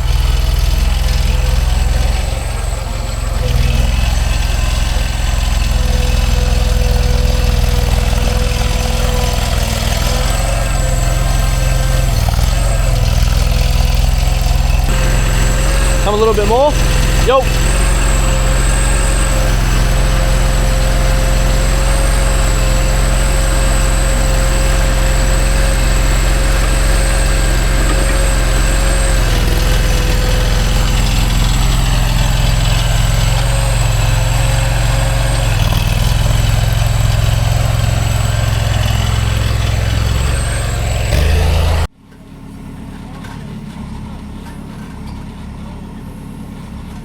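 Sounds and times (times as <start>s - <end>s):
mini loader engine running: 0.0s - 47.0s.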